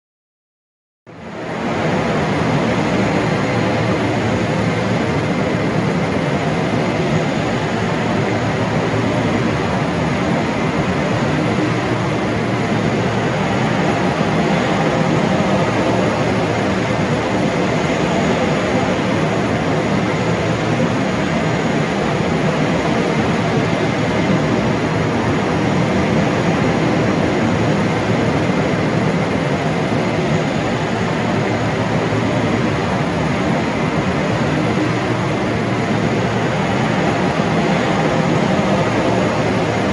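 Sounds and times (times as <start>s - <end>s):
aircraft engines running: 1.1s - 39.9s.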